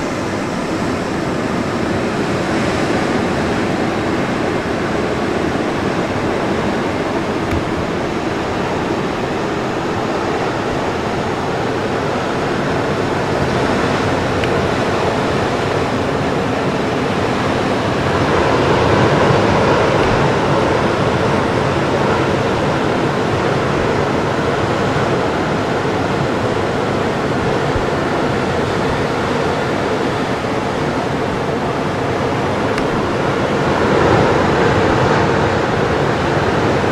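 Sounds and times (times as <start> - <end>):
ocean surf rushing: 0.0 - 36.9.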